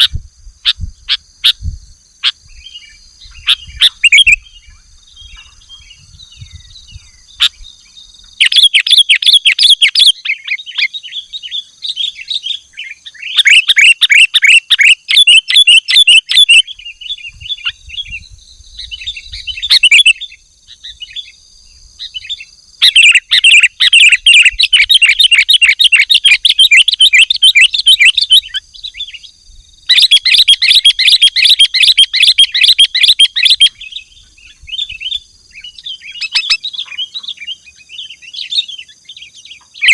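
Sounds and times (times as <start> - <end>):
bulbul chattering song: 0.0 - 21.4, 22.0 - 39.9
short bird calls: 2.2 - 18.2, 22.0 - 39.9.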